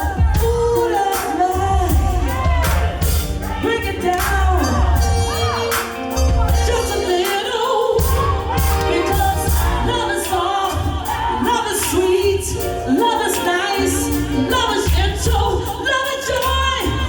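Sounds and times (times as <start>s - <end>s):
bass line: 0.0s - 17.0s
drums: 0.0s - 17.0s
person singing: 0.0s - 17.0s.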